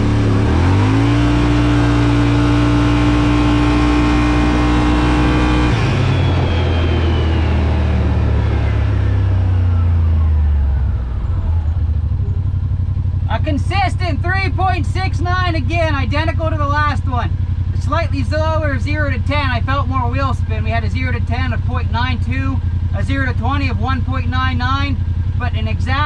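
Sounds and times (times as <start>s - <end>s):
engine revving at full throttle: 0.0s - 26.0s.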